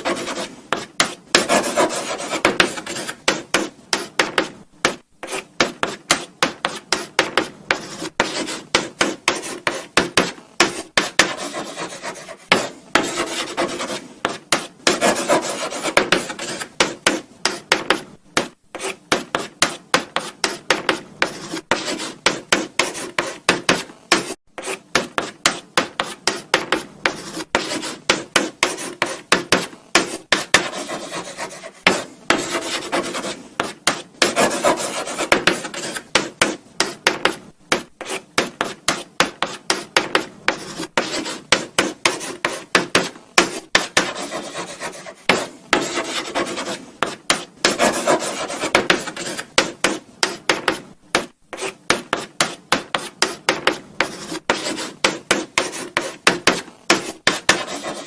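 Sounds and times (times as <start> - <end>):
chalk scratching on blackboard: 0.0 - 58.0.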